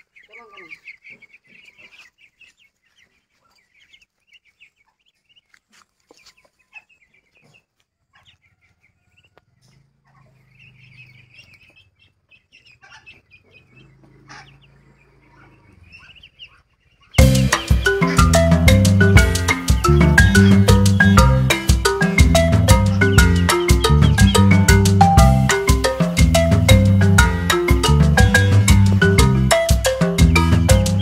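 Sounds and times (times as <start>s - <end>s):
ducklings peeping: 0.0s - 31.0s.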